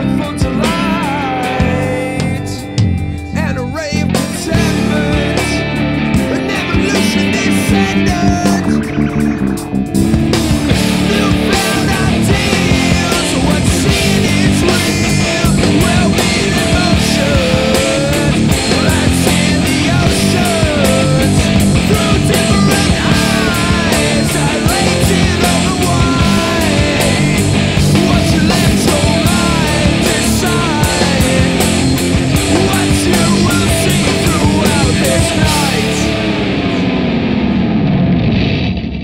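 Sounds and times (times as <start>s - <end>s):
electric guitars: 0.0s - 39.0s
drums and crashing cymbals: 4.1s - 36.4s.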